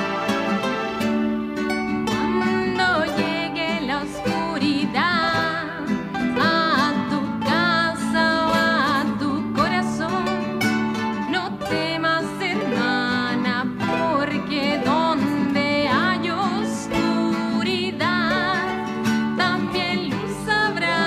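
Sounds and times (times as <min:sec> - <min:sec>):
plucked guitar: 0:00.0 - 0:21.0
person singing with vibrato: 0:02.1 - 0:21.0.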